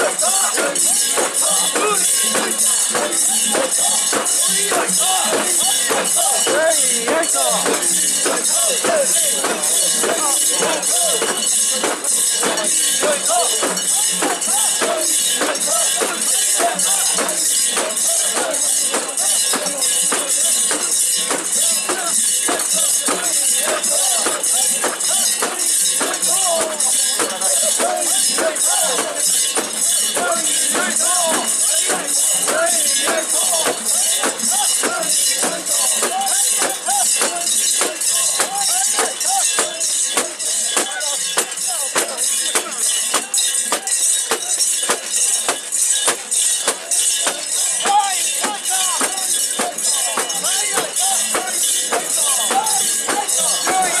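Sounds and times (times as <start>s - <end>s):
many voices chanting and calling: 0.0s - 54.0s
metal ornaments and bells jingling: 0.0s - 54.0s.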